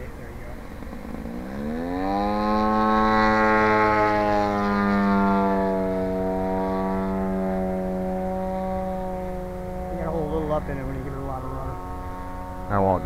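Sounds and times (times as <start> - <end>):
model airplane engine: 0.0 - 13.0.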